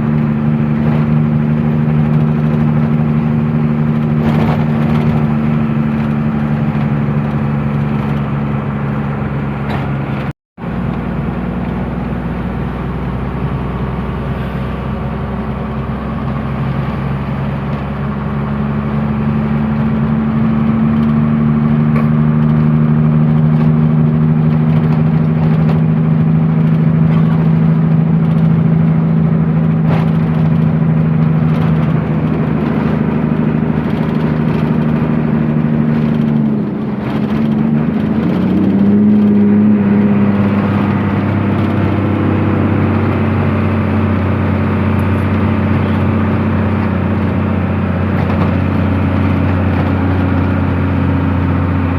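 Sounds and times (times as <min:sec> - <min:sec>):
truck engine running: 0:00.0 - 0:51.9.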